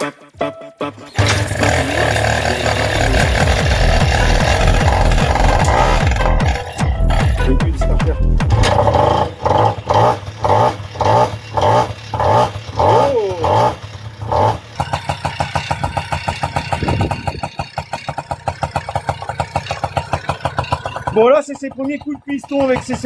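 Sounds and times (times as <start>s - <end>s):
moped engine starting and running: 0.3s - 23.0s.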